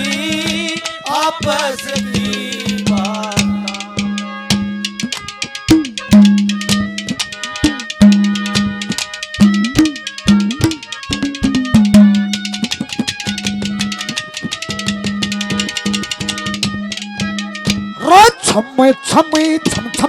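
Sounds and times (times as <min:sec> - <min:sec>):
hand drums fast rhythm: 0:00.0 - 0:18.0
held melodic notes: 0:00.0 - 0:20.0.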